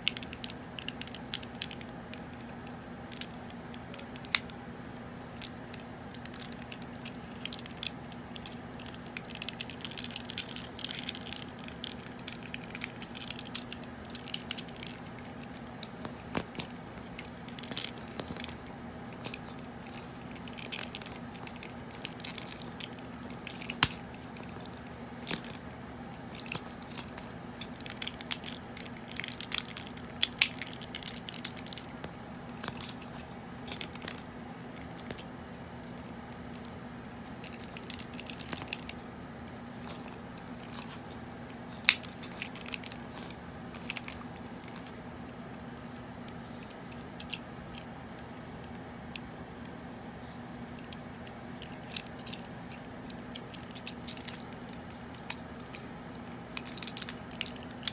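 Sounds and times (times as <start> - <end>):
plastic toy clicking and snapping: 0.0 - 4.6, 5.3 - 32.0, 32.6 - 39.0, 41.7 - 44.9, 46.2 - 48.4, 50.8 - 57.9
faint low hum: 0.0 - 57.9.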